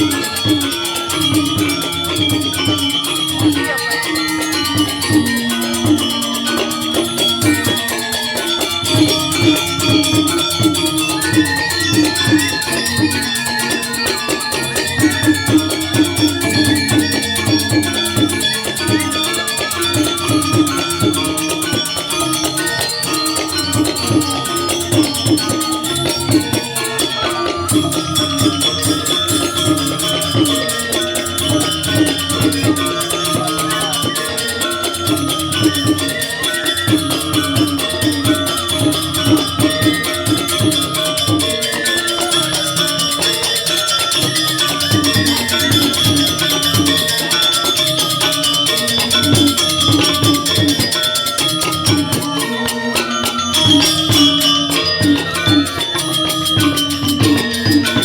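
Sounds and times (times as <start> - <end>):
instrumental music with fast beat: 0.0 - 58.0.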